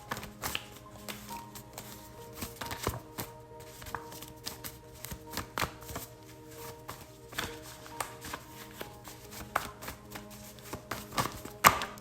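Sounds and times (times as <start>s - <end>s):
cards being shuffled: 0.0s - 12.0s
soft background music: 0.0s - 12.0s.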